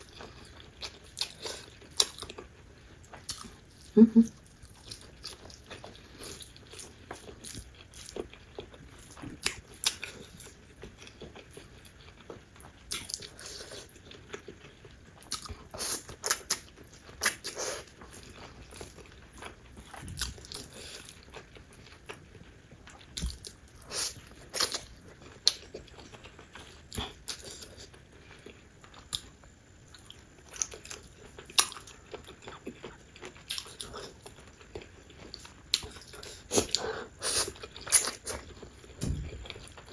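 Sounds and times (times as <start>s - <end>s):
chewing food: 0.0s - 39.9s.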